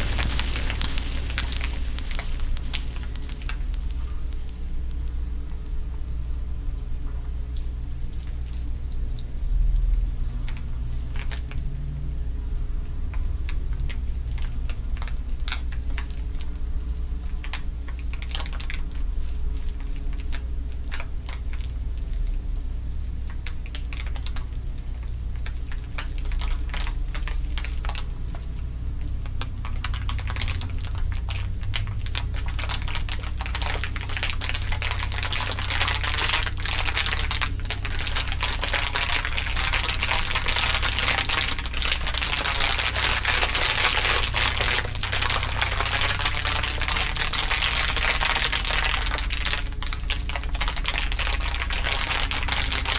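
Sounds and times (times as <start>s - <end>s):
crisp crinkling: 0.0s - 5.0s, 13.1s - 16.6s, 17.3s - 22.4s, 23.0s - 52.9s
steady low hum: 0.0s - 52.9s.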